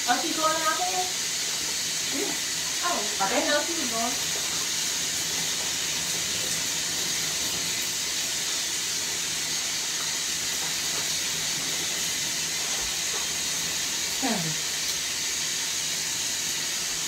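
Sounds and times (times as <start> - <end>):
shower spraying water: 0.0 - 17.0.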